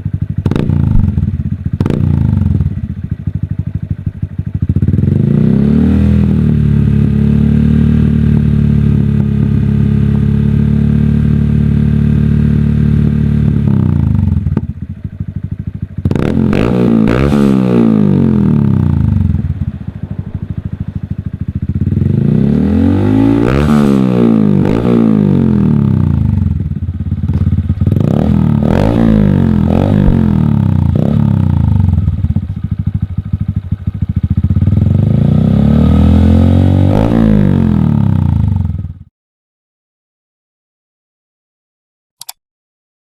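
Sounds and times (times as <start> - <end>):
motorcycle engine revving: 0.0 - 39.1.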